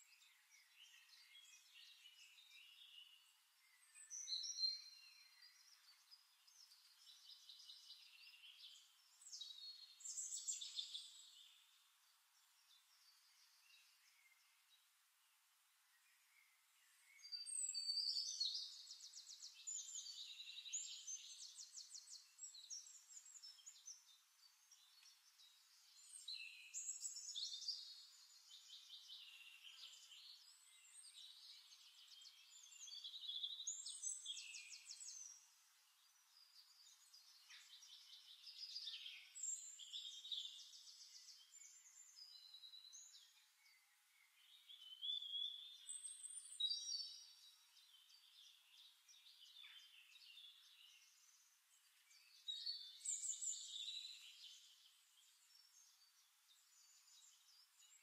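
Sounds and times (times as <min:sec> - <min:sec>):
faint birdsong: 0:00.0 - 0:58.0.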